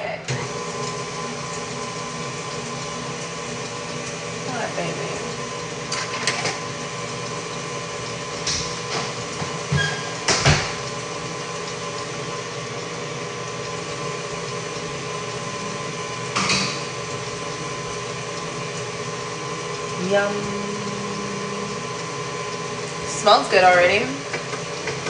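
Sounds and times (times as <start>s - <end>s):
stand mixer motor hum: 0.0s - 25.0s.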